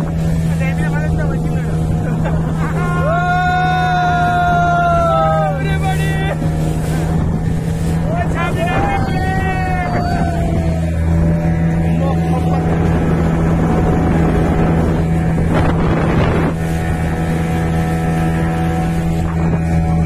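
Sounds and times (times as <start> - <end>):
motorboat engine running: 0.0 - 20.0
water rushing: 0.0 - 20.0
wind on microphone: 0.0 - 20.0.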